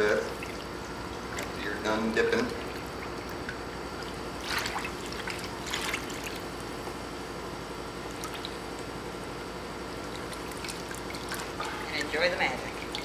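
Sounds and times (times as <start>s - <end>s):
water splashing in a tank: 0.0s - 6.8s, 7.9s - 13.0s.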